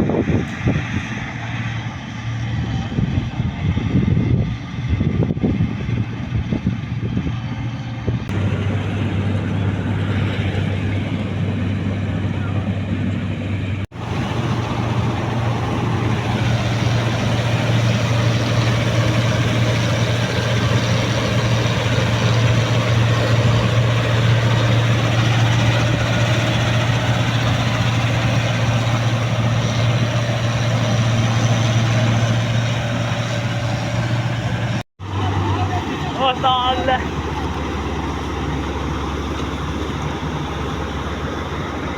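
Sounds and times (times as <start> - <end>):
diesel engine running steadily: 0.0 - 41.9.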